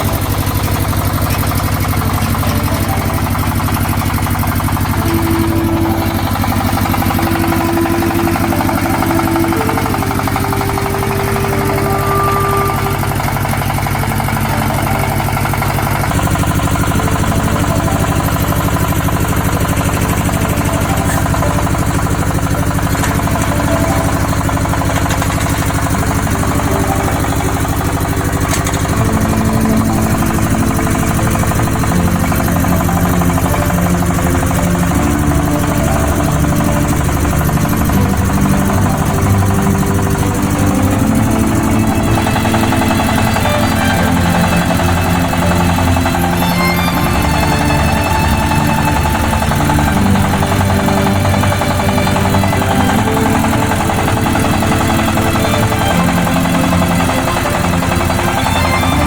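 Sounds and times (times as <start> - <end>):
drilling rig engine running: 0.0 - 59.0
high whining tones: 0.0 - 59.0.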